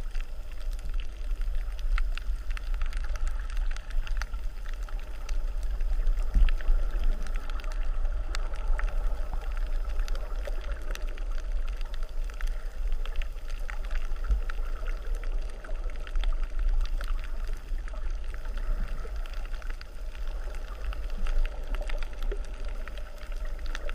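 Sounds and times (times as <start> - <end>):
fine crackle of clicks: 0.0 - 23.9.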